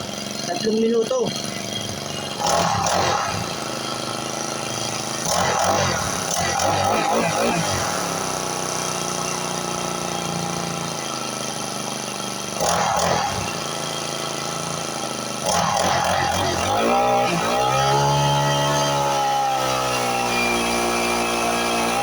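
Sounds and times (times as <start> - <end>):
small engine running and revving: 0.0 - 22.0.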